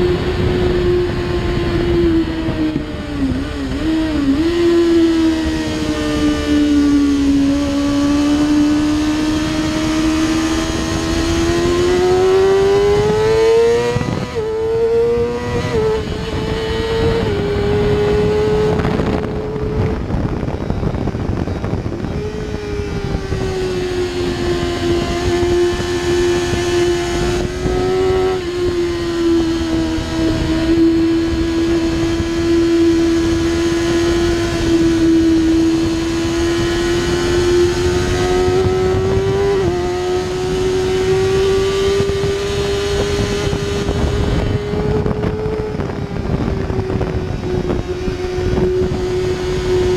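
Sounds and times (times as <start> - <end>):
motorcycle engine at high revs: 0.0 - 49.9
wind rush: 0.0 - 49.9.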